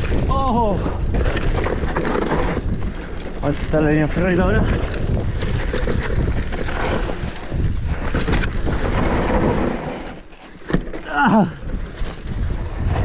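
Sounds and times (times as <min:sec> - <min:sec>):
wind buffeting microphone: 0:00.0 - 0:10.3, 0:11.4 - 0:13.0
bike rattles and knocks: 0:00.0 - 0:13.0
bike tyres rolling on dirt: 0:00.0 - 0:13.0.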